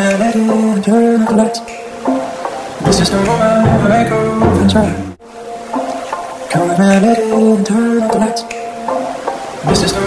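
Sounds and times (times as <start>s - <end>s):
song with sung vocal: 0.0s - 10.0s.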